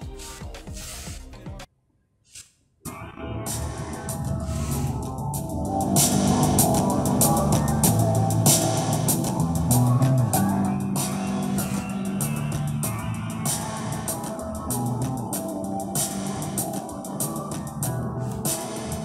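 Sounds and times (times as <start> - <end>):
rock music through small speaker: 2.9 - 19.0.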